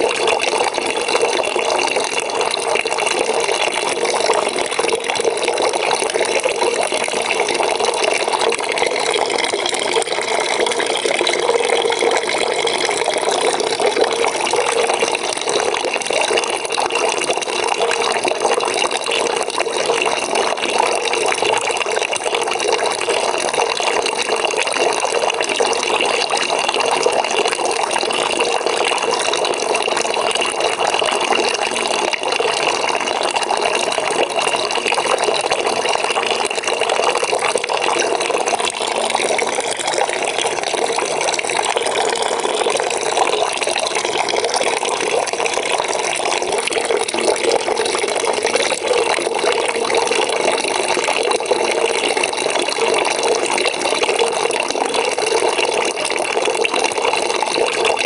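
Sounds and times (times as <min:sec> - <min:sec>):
water pouring into a bucket: 0:00.0 - 0:58.0.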